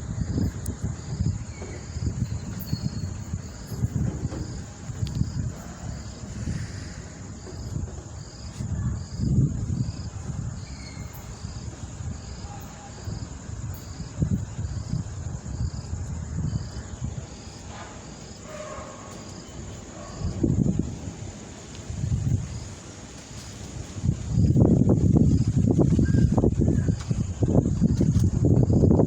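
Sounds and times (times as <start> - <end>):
cricket chirping: 0.0 - 29.0
wind buffeting microphone: 0.0 - 29.0.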